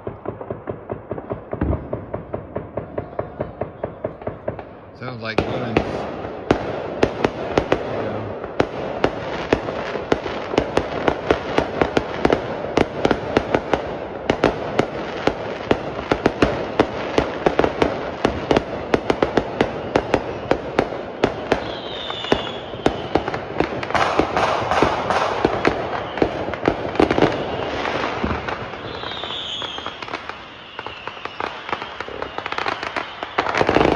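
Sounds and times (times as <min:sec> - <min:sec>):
firework crackle: 0:00.0 - 0:33.9
fireworks banging: 0:00.0 - 0:33.9.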